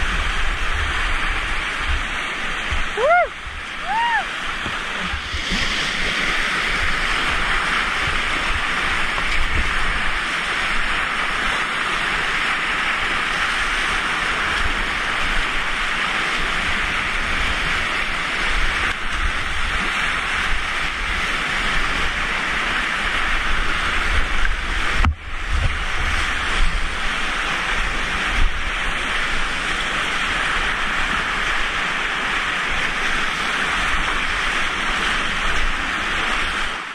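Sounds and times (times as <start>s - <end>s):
rushing whitewater: 0.0s - 36.9s.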